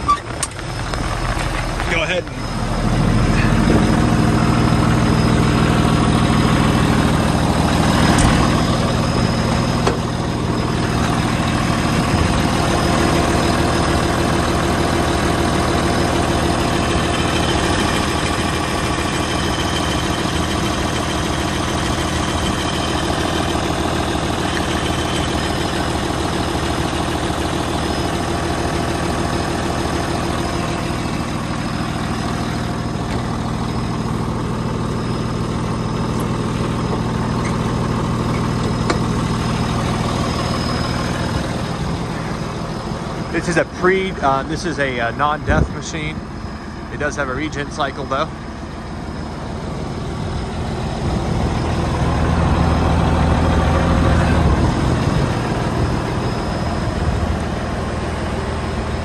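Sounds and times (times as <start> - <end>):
dozer diesel engine idling: 0.0 - 59.0.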